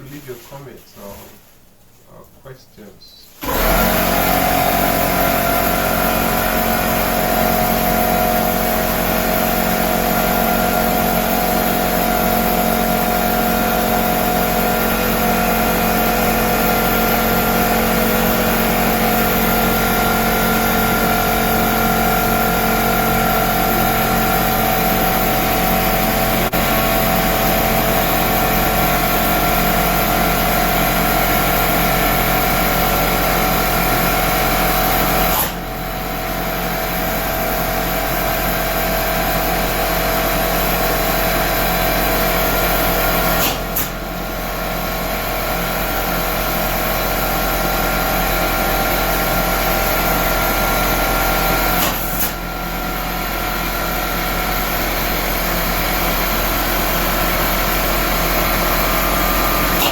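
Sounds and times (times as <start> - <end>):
loud machine drone: 3.4 - 59.9.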